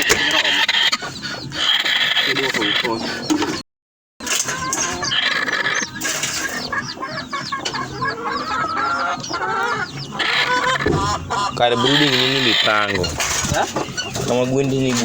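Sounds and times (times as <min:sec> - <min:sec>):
chickens clucking: 0:00.0 - 0:03.6, 0:04.2 - 0:15.0
chicks peeping: 0:00.0 - 0:03.6, 0:04.2 - 0:15.0.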